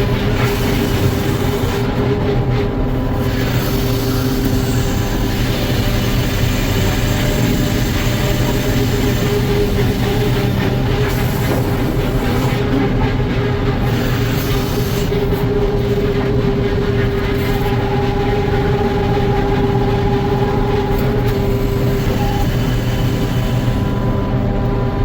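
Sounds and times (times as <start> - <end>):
sawmill machinery drone: 0.0 - 25.0.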